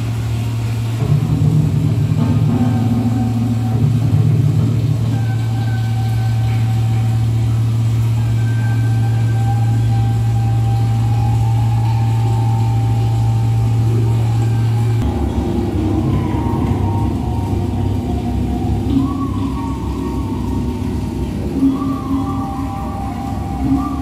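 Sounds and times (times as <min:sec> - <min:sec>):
loud low electronic drone: 0:00.0 - 0:24.0
thin high held tones: 0:00.0 - 0:24.0.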